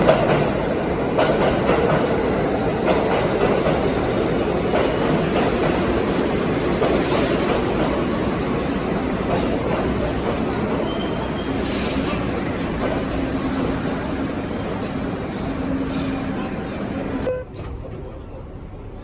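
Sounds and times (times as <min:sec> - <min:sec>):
subway train rumbling on tracks: 0:00.0 - 0:19.0.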